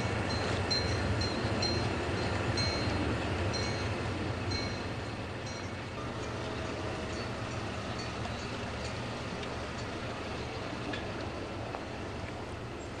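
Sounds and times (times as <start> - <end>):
car moving slowly: 0.0 - 13.0.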